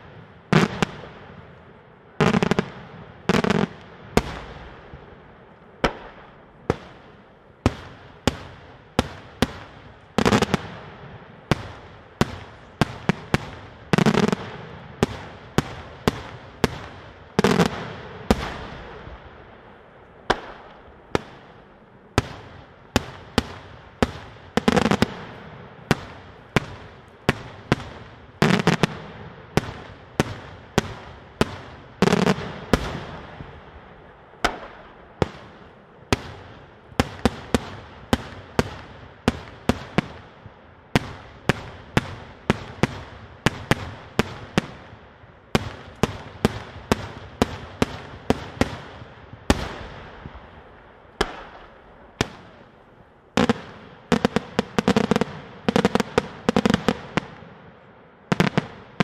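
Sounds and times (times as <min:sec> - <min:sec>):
fireworks bangs: 0:00.0 - 0:01.5, 0:02.1 - 0:05.2, 0:05.8 - 0:57.7, 0:58.3 - 0:59.0.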